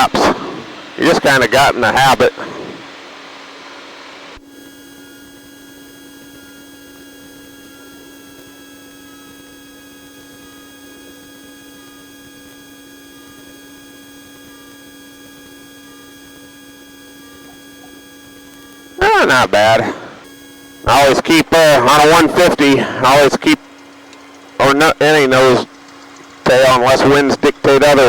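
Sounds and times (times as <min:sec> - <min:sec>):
electrical hum: 0:00.0 - 0:28.0
high whining tones: 0:00.0 - 0:28.0.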